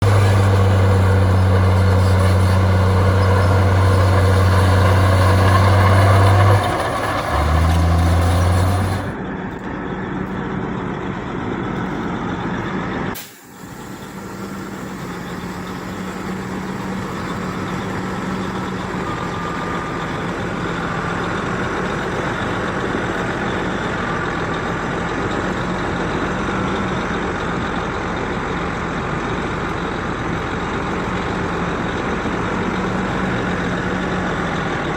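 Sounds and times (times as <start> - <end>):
heavy diesel machinery engine drone: 0.0 - 34.9.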